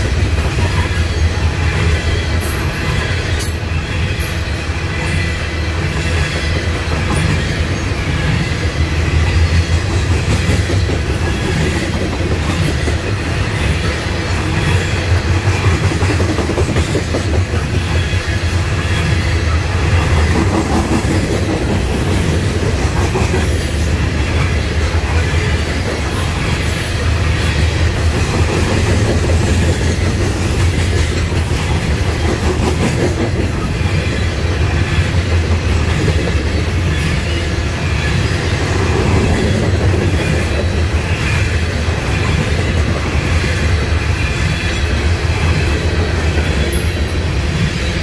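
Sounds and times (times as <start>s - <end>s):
freight cars rolling on rails: 0.0s - 48.0s.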